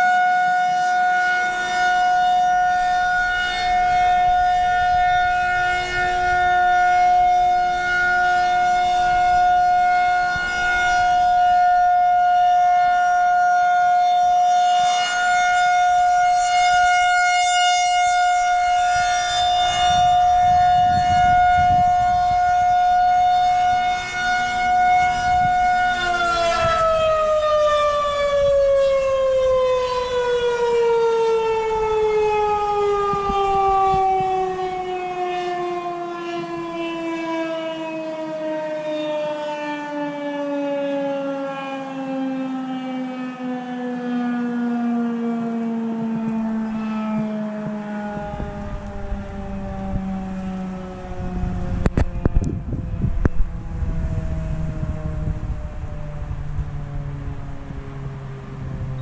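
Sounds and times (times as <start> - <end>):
mechanical warning siren: 0.0 - 59.0.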